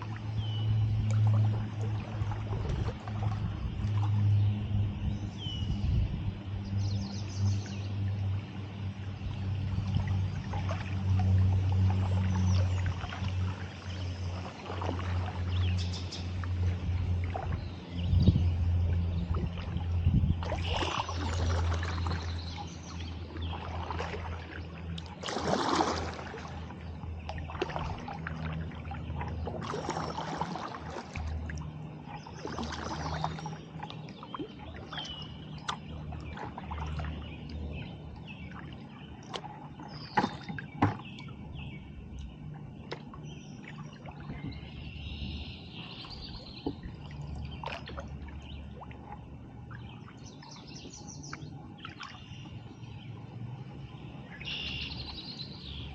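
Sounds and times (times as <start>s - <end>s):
paddle splashing in water: 0.0s - 5.8s, 6.7s - 55.9s.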